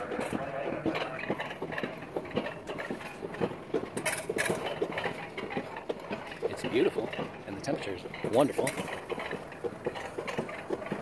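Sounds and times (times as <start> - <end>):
coaster cart rattling on rail: 0.0 - 11.0.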